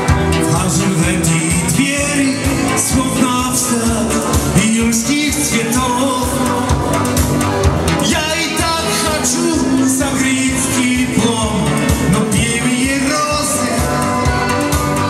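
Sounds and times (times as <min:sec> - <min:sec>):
accordion: 0:00.0 - 0:15.0
electronic keyboard with dance beat: 0:00.0 - 0:15.0
man singing: 0:00.0 - 0:15.0.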